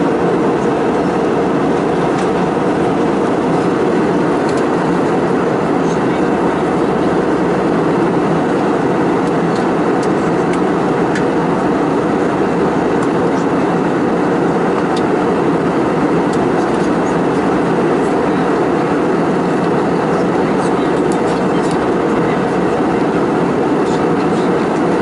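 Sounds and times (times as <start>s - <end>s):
airliner cabin noise: 0.0s - 25.0s.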